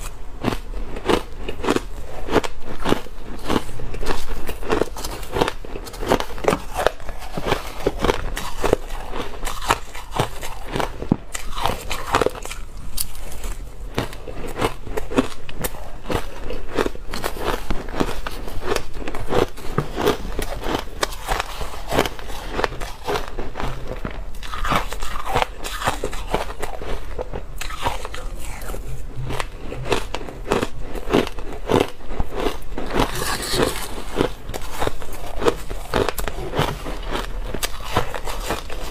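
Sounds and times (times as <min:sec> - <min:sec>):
ice crunching in mouth: 0:00.0 - 0:38.9.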